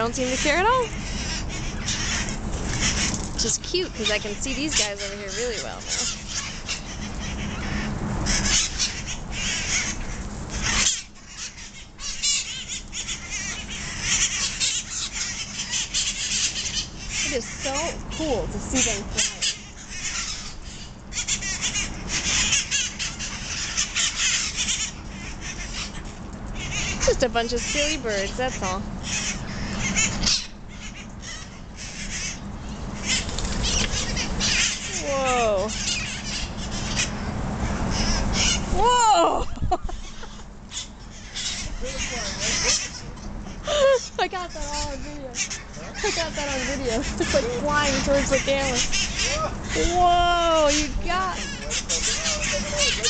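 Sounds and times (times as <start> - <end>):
parakeets screeching: 0.0 - 53.0.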